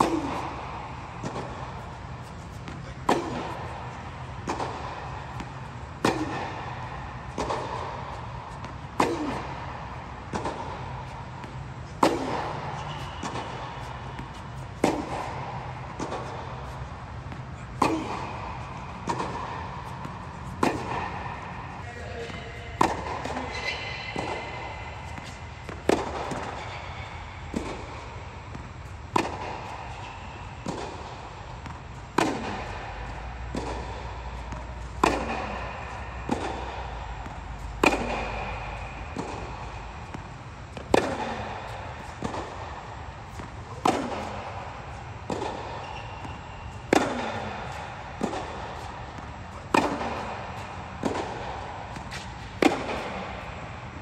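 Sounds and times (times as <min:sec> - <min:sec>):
tennis racket hitting ball: 0:00.0 - 0:54.0.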